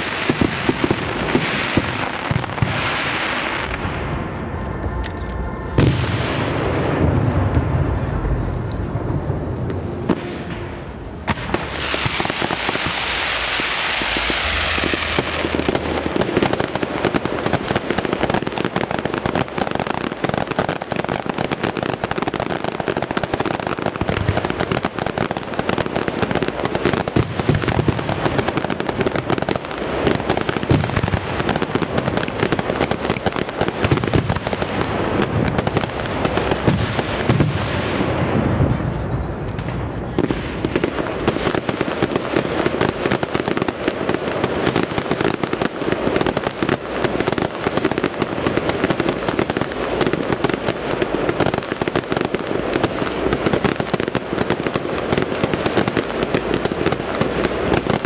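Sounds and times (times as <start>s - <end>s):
loud rushing hiss: 0.0s - 4.6s, 5.4s - 49.4s
fireworks cracking and banging: 0.0s - 58.0s.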